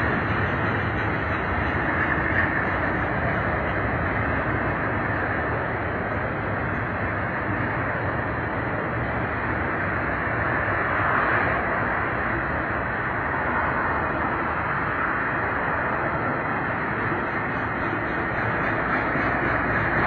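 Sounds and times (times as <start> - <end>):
freight cars rolling on rails: 0.0 - 20.0.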